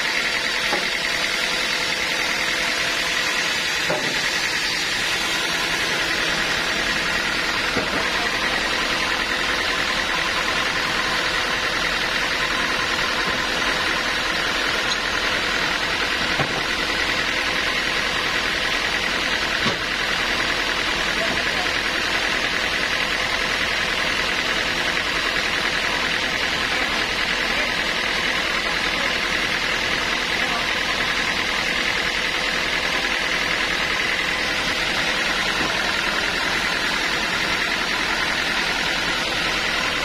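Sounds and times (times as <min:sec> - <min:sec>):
sawmill machinery hum: 0:00.0 - 0:40.0.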